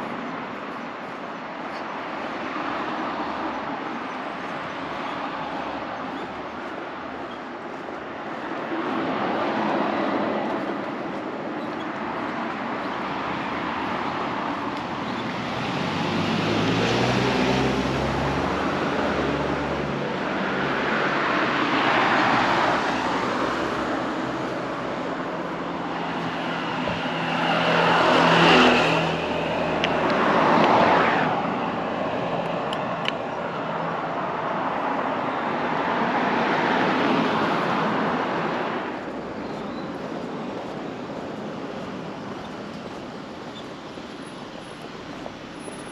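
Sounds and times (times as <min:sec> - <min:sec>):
vehicles passing close by: 0:00.0 - 0:45.9.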